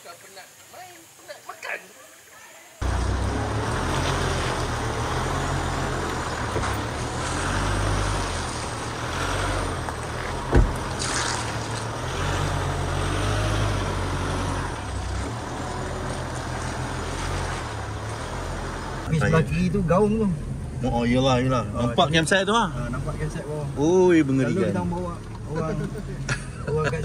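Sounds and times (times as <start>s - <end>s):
vehicle engine at low revs: 2.8s - 27.0s.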